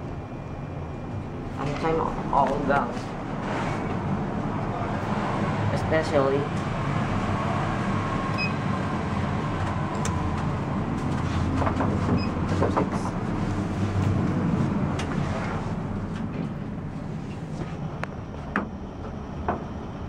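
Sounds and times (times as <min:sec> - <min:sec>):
elevator hum: 0:00.0 - 0:20.0.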